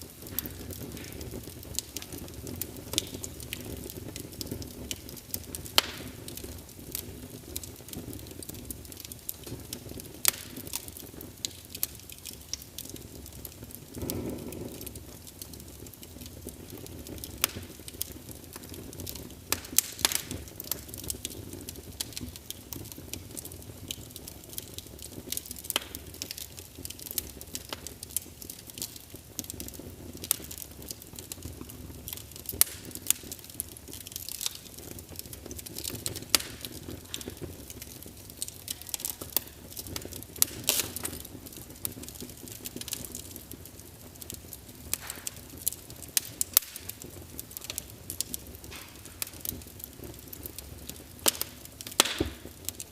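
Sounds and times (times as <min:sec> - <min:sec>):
log fire crackling and popping: 0:00.0 - 0:52.9.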